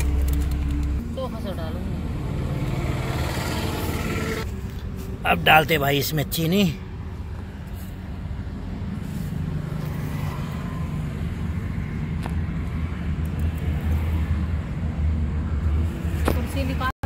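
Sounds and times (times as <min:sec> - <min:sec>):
passing traffic engine hum: 0:00.0 - 0:16.9.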